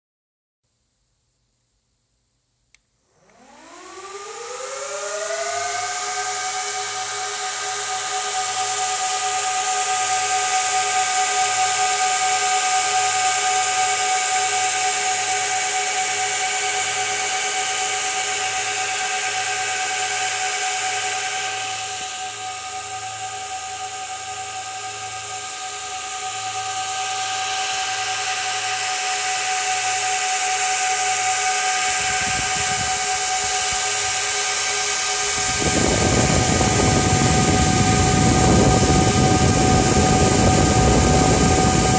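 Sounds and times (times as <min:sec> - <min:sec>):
server cooling fans whirring: 0:03.0 - 0:41.9.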